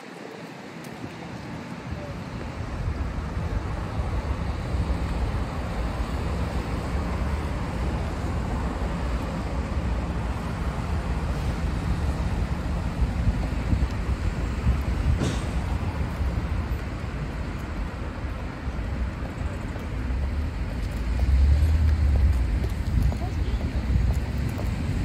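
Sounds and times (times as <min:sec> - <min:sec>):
traffic on wet roads: 0:00.0 - 0:25.0
wind buffeting microphone: 0:00.0 - 0:25.0.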